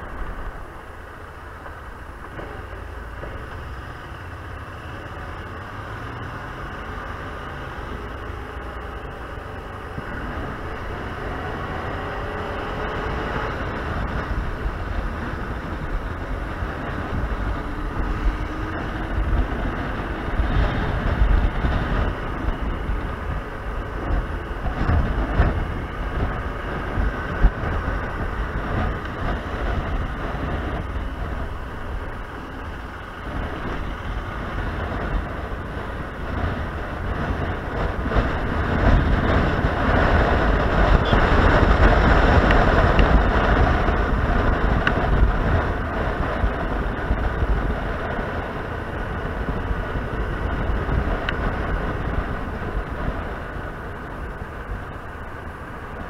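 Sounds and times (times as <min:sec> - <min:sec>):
motorcycle engine: 0:00.0 - 0:56.0
road noise: 0:00.0 - 0:56.0
wind rushing over microphone: 0:00.0 - 0:56.0.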